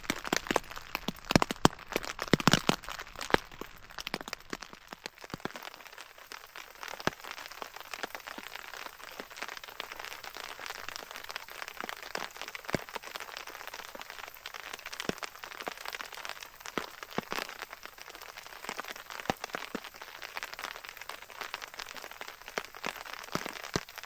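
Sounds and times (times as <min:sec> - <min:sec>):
light rain hiss: 0:00.0 - 0:24.0
raindrops pattering on a tarp: 0:00.0 - 0:24.0.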